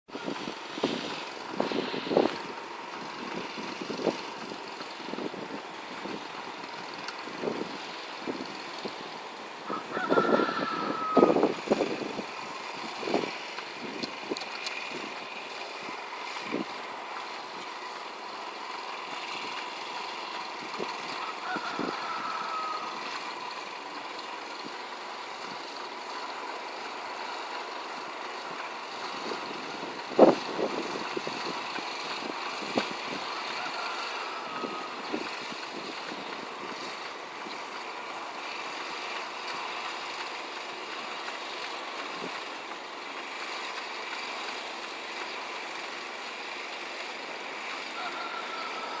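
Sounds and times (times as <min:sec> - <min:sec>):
small engine running: 0:00.1 - 0:49.0.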